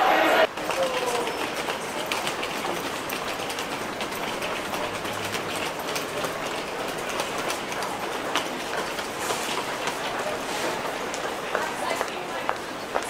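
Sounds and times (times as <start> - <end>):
hubbub of people passing: 0.0 - 13.0
footsteps: 0.4 - 13.0
rolling suitcases: 0.4 - 13.0.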